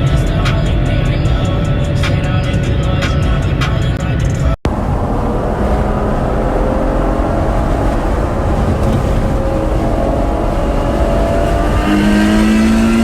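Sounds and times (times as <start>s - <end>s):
car engine running: 0.0s - 13.0s
low road rumble: 0.0s - 13.0s.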